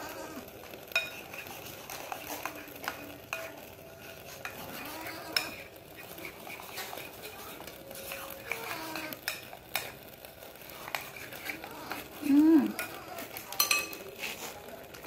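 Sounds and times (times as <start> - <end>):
spoon stirring batter in bowl: 0.0 - 15.0.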